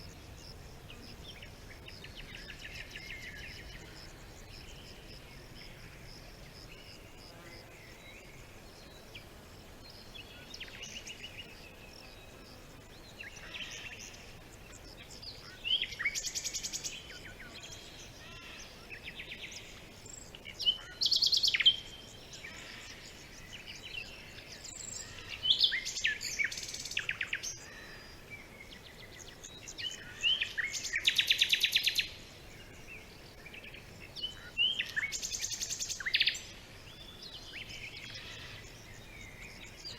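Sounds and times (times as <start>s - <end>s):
faint steady hiss: 0.0s - 39.9s
songbirds singing: 0.0s - 39.9s.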